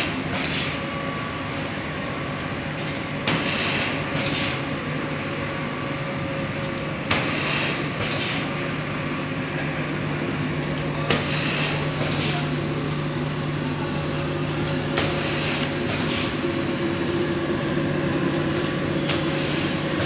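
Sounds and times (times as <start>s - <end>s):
machine mechanical hum: 0.0s - 20.0s.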